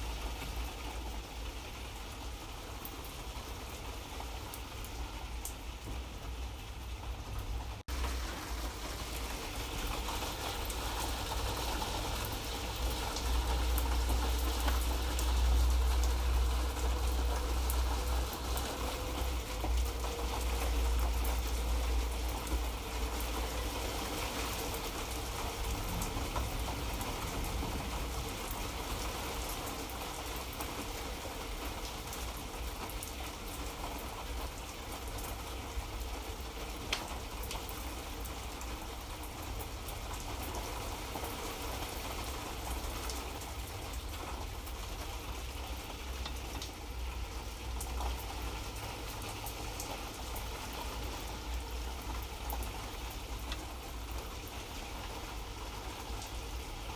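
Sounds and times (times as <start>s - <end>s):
light rain hiss: 0.0s - 56.9s.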